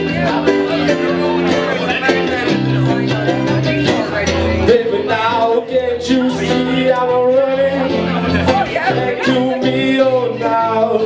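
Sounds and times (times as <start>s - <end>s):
acoustic guitars: 0.0s - 11.0s
electric bass: 0.0s - 11.0s
man singing: 0.0s - 11.0s.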